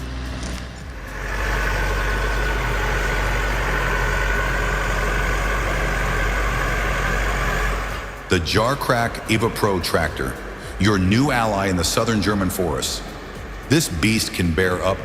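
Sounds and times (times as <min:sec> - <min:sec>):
heavy machine engine running: 0:00.0 - 0:15.0
high engine whine: 0:00.0 - 0:15.0.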